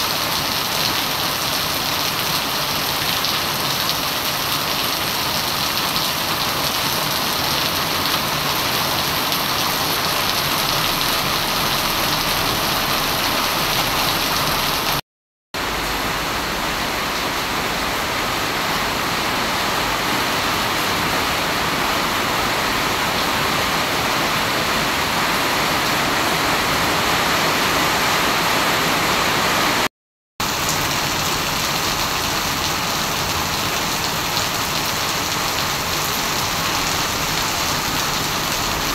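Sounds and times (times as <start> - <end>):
heavy rain on pavement: 0.0 - 15.0, 15.6 - 38.9.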